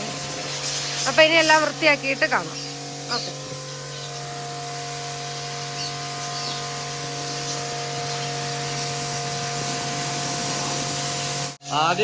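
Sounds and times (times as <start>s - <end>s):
pressure washer pump humming: 0.0s - 12.0s
water jet spraying: 0.0s - 12.0s.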